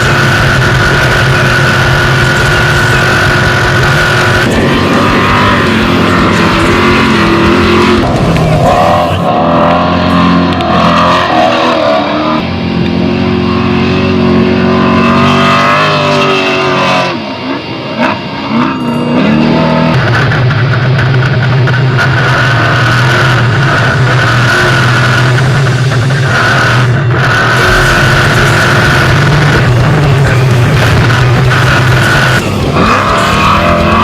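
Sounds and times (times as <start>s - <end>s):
race vehicle engine running hard: 0.0s - 34.0s.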